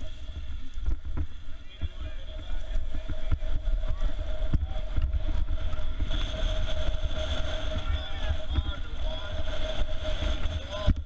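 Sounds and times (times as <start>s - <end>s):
thin whine: 0.0s - 11.0s
wind buffeting microphone: 0.0s - 11.0s.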